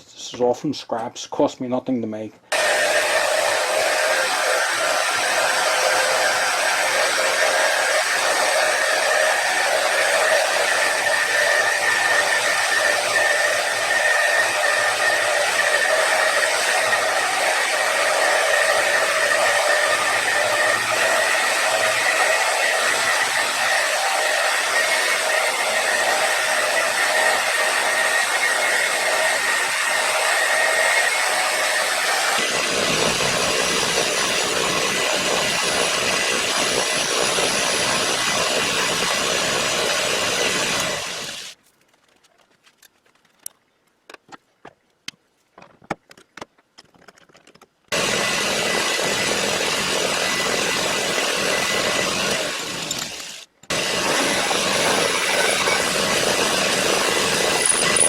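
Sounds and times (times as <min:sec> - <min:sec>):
power tools cutting metal: 0:02.5 - 0:41.6, 0:47.9 - 0:58.0.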